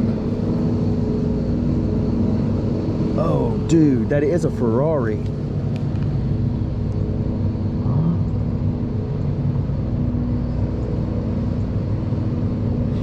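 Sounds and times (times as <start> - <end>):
sports car engine humming: 0.0 - 13.0.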